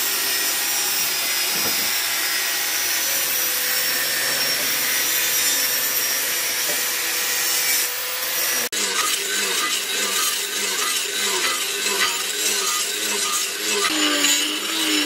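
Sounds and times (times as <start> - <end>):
tool rasping: 0.0 - 15.0.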